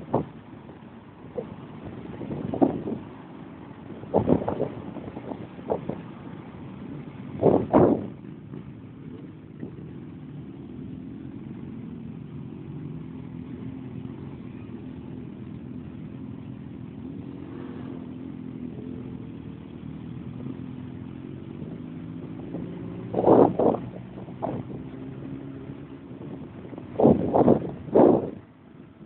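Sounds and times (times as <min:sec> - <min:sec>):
motorcycle engines running: 0:00.0 - 0:29.0.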